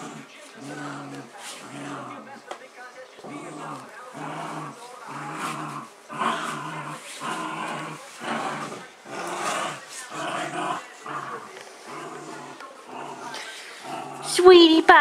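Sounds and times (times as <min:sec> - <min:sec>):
dog growling: 0:00.0 - 0:02.3, 0:03.2 - 0:15.0.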